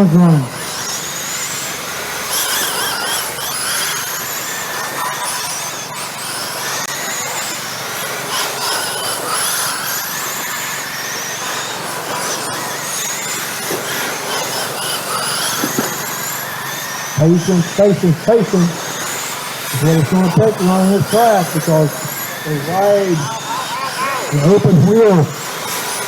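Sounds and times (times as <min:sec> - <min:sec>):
rc truck motors whining: 0:00.0 - 0:26.0.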